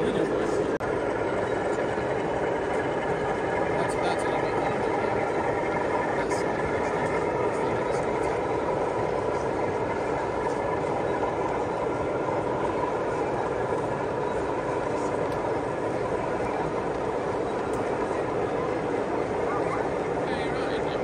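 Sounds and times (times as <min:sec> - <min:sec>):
crowd babble: 0:00.0 - 0:21.0.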